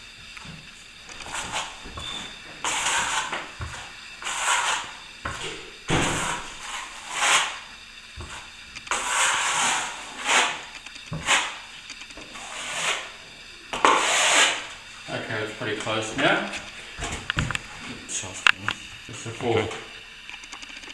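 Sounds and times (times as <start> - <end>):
trowel scraping filler: 0.4 - 18.3.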